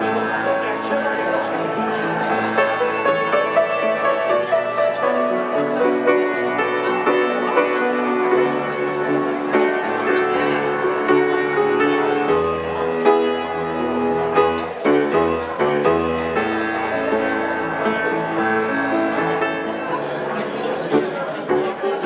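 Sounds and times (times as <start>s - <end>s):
keyboard chords: 0.0s - 22.0s.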